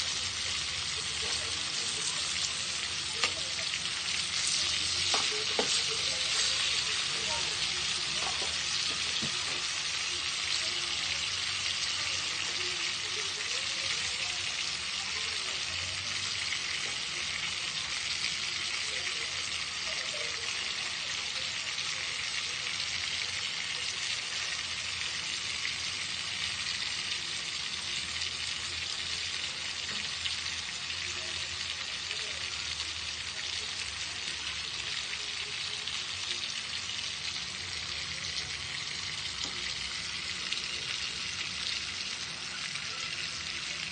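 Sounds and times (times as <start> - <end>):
pork chops sizzling in fat: 0.0 - 43.9.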